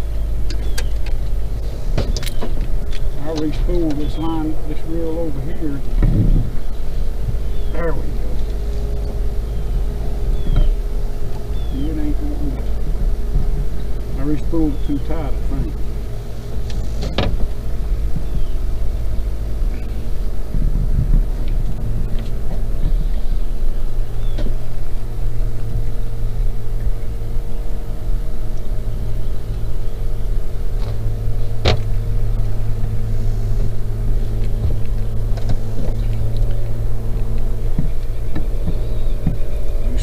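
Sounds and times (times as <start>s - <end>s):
outboard motor humming: 0.0s - 40.0s.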